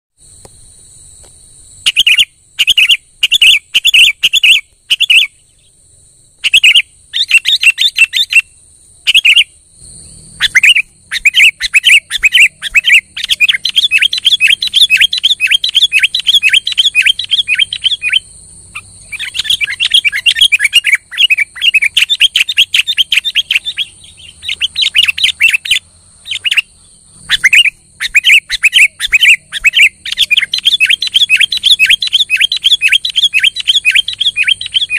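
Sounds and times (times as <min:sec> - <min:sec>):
bulbul singing: 0:01.8 - 0:05.8, 0:06.4 - 0:34.9.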